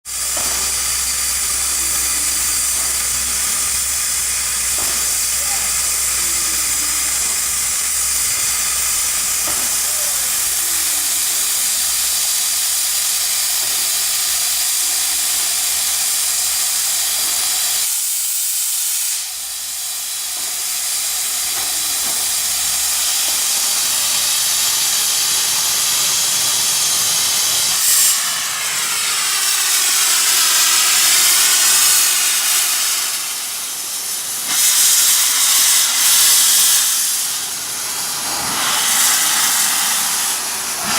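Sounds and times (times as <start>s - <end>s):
steam locomotive hissing: 0.0s - 40.9s.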